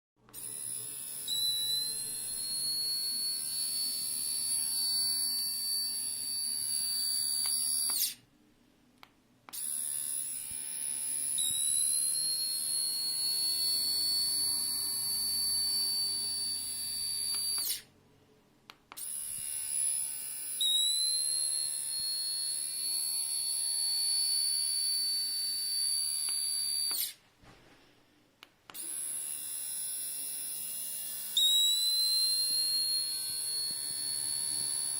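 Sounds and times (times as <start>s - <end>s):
electric shaver whining: 0.3s - 8.2s, 9.6s - 17.9s, 19.0s - 27.2s, 28.8s - 34.9s.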